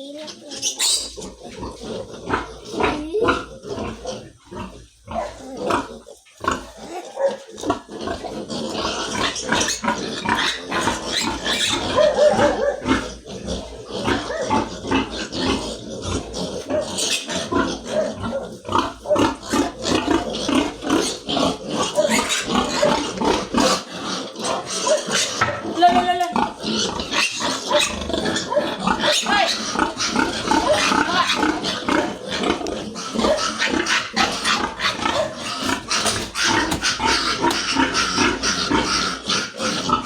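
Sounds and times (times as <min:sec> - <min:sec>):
piglets squealing and grunting: 0:00.0 - 0:40.0.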